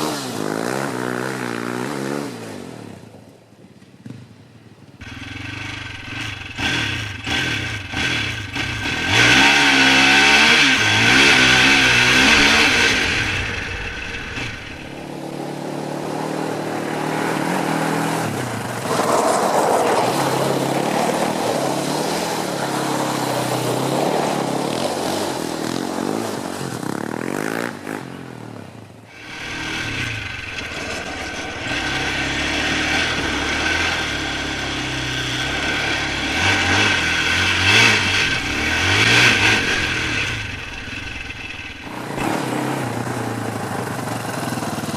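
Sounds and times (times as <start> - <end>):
atv engine revving hard: 0.0 - 3.0, 5.0 - 44.9.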